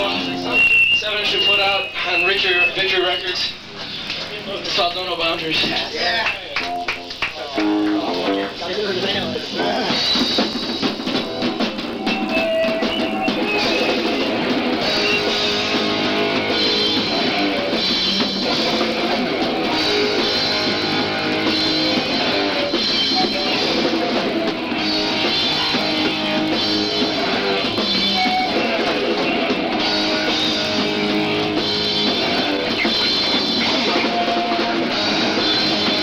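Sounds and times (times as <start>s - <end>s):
electric guitar: 0.0s - 2.4s, 5.4s - 36.0s
drum kit: 0.0s - 4.5s, 5.5s - 36.0s.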